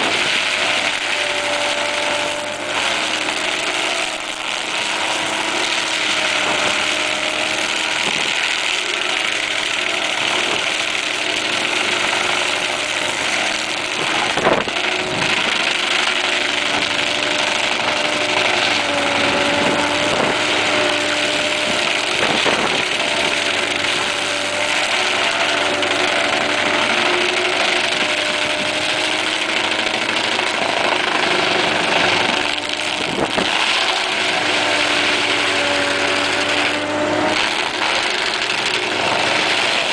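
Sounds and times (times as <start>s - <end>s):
engine and hydraulic drone: 0.0s - 39.9s
stump grinder chewing wood: 0.0s - 39.9s.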